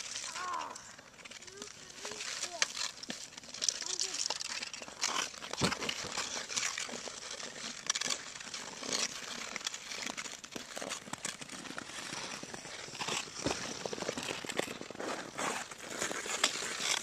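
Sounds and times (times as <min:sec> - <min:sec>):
ice skates scraping on ice: 0:00.0 - 0:17.0.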